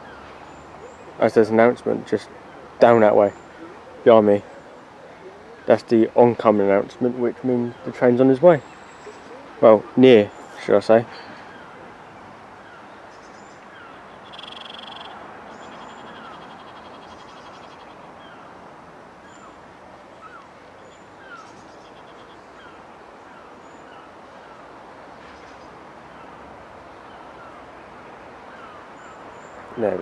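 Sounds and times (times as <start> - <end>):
birds chirping and calling: 0.0 - 18.6, 19.2 - 27.8, 28.4 - 30.0
steady outdoor hiss: 0.0 - 30.0.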